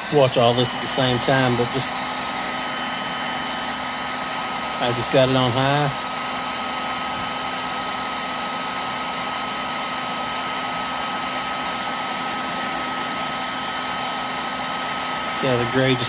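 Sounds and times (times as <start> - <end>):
heat gun blowing with whine: 0.0 - 16.0.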